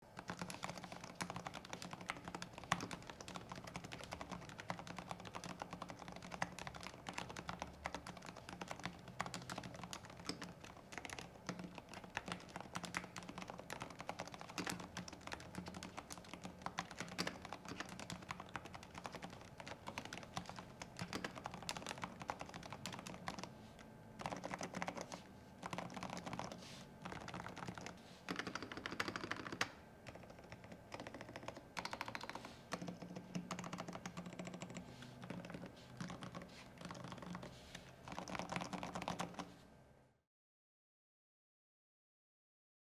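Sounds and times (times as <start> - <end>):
soft mechanical keyboard typing: 0.1 - 23.6, 24.2 - 39.5.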